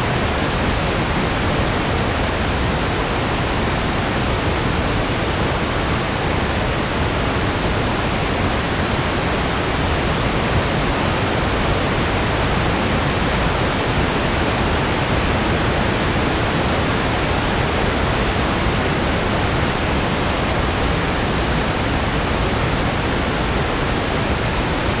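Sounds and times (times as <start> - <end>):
synthetic wind noise: 0.0 - 25.0.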